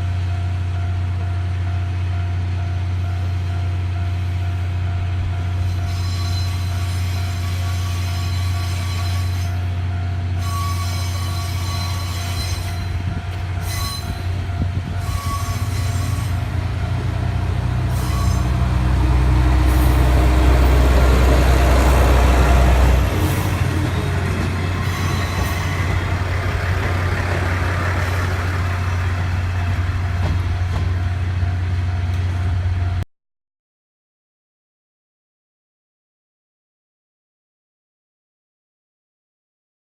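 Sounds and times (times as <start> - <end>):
steam train rumbling past: 0.0 - 33.0.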